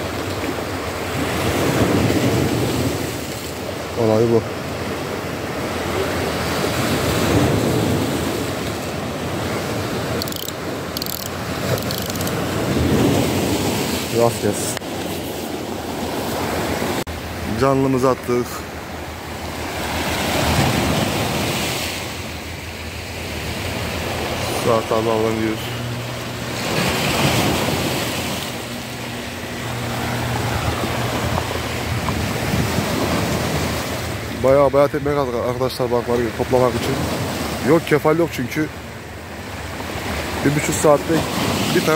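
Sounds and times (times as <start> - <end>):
sea surf washing onto shore: 0.0 - 41.9.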